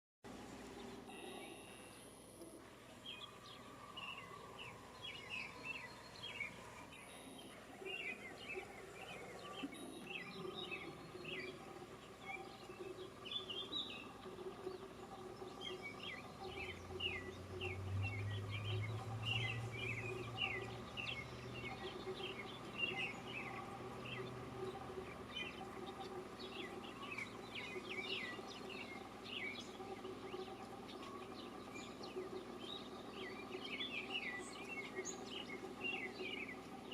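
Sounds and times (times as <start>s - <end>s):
steady low hum: 0.3s - 36.9s
small birds chirping: 0.4s - 36.9s.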